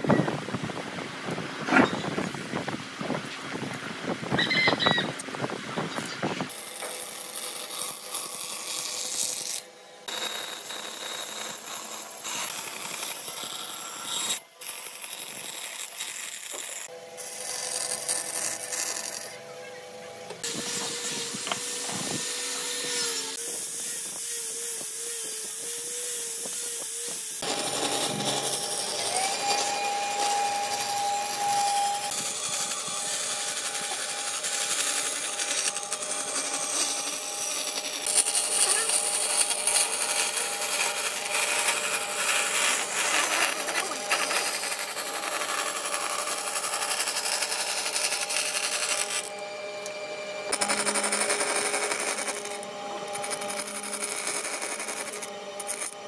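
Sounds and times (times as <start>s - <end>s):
band saw cutting wood: 1.3s - 2.7s, 5.9s - 56.0s
angle grinder sanding wood: 5.2s - 56.0s.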